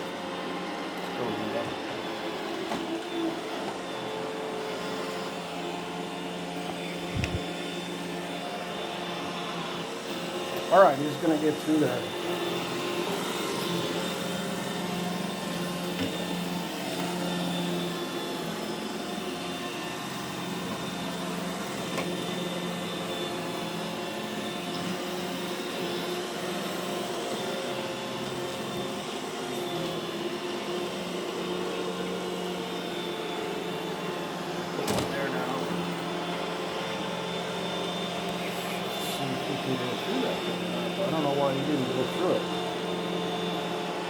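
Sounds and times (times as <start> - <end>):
robot vacuum running: 0.0 - 44.0.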